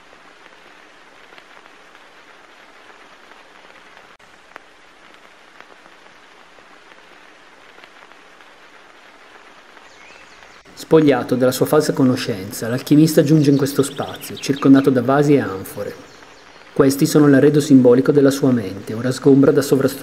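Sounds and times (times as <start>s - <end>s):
light rain hiss: 0.0s - 20.0s.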